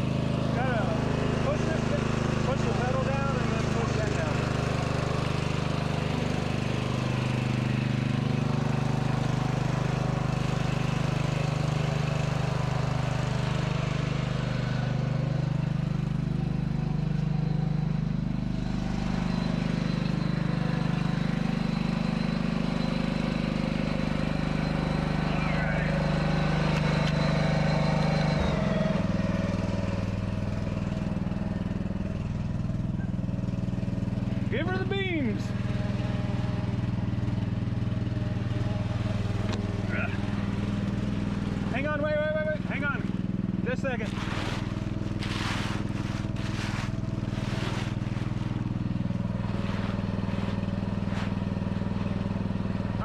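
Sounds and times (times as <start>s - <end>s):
small tractor engine running: 0.0s - 53.0s.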